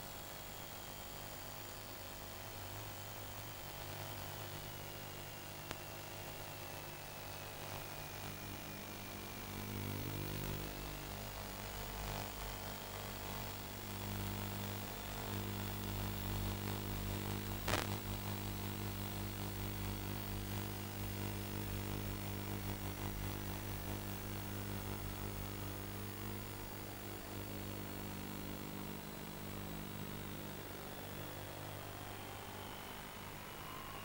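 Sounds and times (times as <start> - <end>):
electrical hum and buzz: 0.0 - 34.0
static hiss: 0.0 - 34.0.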